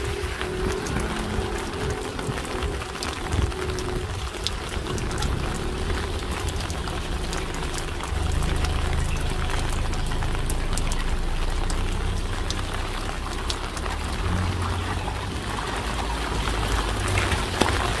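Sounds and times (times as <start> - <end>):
low rumble: 0.0 - 18.0
sharp drip ticks: 0.0 - 18.0
steady rain falling: 0.0 - 18.0.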